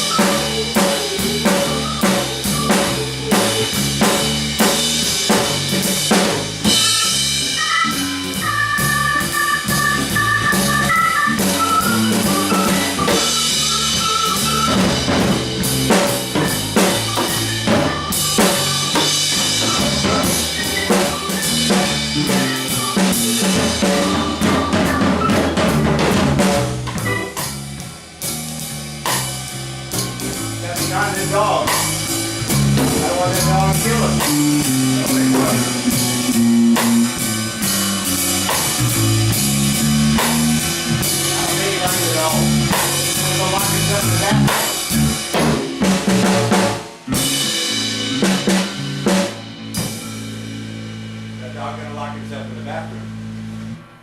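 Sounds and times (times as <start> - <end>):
drum kit rimshots and bass drum: 0.0 - 54.0
live band playing: 0.0 - 54.0.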